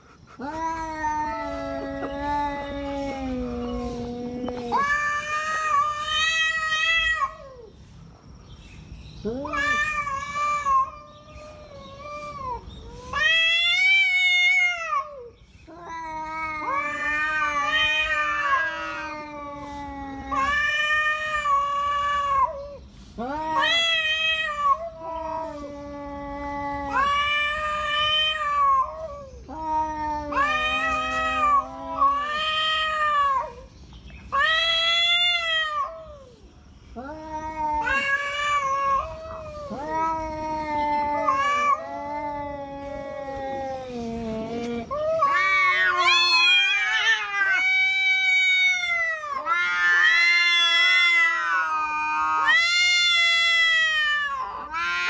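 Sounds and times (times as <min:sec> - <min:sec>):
tomcats caterwauling: 0:00.0 - 0:07.7, 0:09.2 - 0:55.0.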